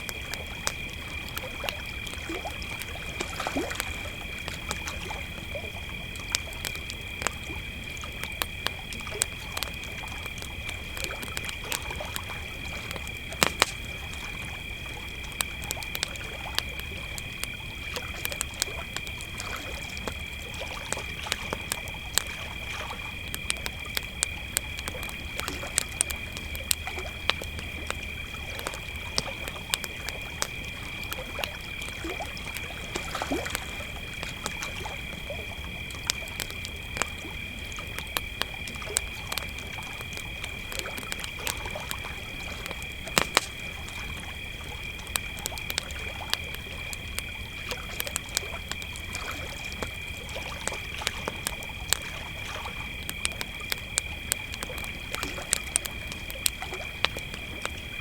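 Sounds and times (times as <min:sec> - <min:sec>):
campfire crackling and popping: 0:00.0 - 0:58.0
crickets chirping: 0:00.0 - 0:58.0.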